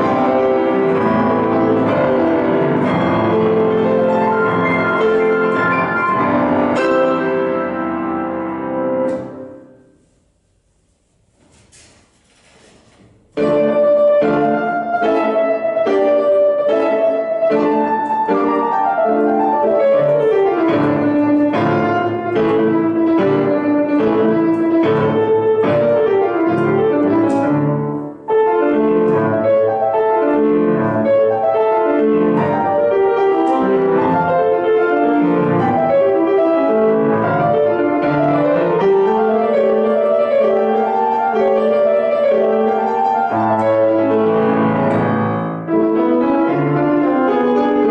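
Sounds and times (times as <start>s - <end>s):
grand piano playing: 0.0s - 10.1s, 13.0s - 47.9s.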